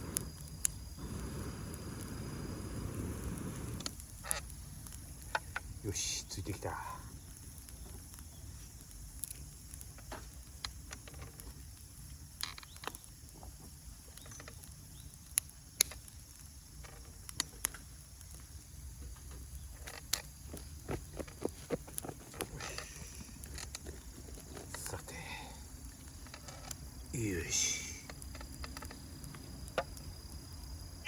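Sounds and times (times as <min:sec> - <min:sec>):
campfire crackling and popping: 0:00.0 - 0:31.0
fire low rumble: 0:00.0 - 0:31.0.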